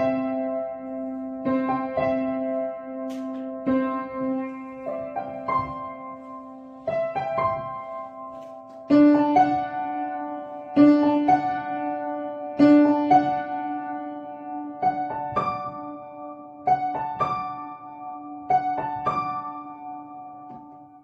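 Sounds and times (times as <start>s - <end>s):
slow piano melody: 0.0s - 21.0s.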